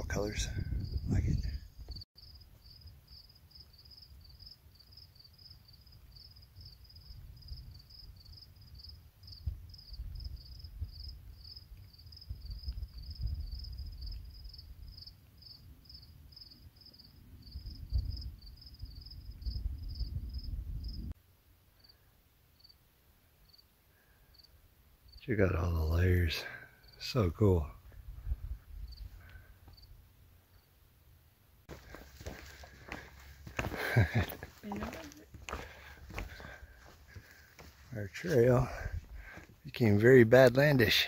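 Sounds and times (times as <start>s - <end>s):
crickets chirping: 0.0s - 21.1s, 21.8s - 22.8s, 23.4s - 30.8s, 31.7s - 41.0s.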